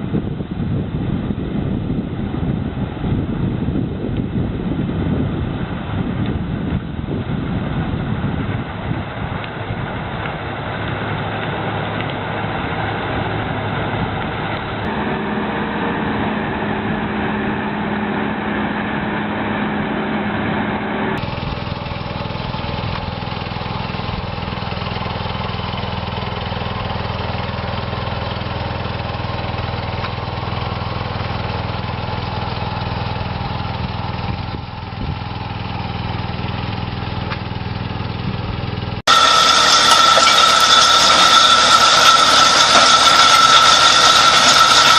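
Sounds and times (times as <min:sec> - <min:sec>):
machine engines running: 0:05.3 - 0:44.9.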